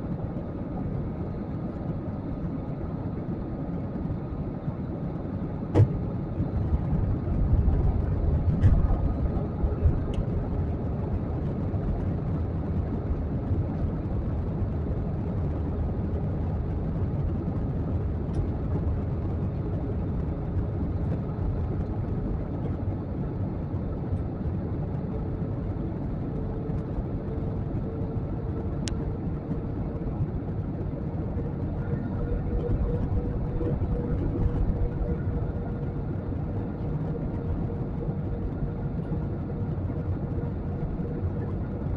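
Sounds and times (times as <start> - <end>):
faint hum: 0.0 - 41.9
jet cabin engine rumble: 0.0 - 41.9.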